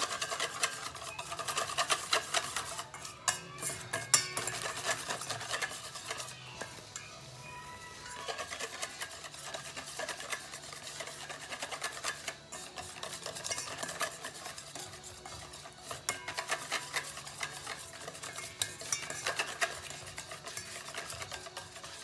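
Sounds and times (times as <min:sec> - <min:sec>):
whisk clicking against metal bowl: 0:00.0 - 0:07.3, 0:07.9 - 0:22.0.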